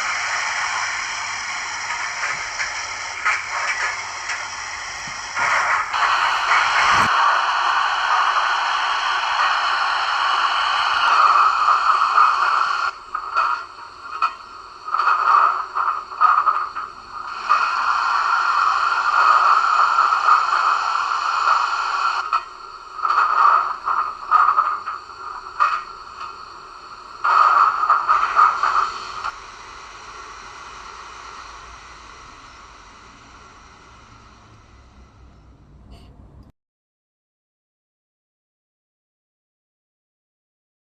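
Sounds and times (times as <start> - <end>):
model locomotive steam hiss: 0.0 - 36.5.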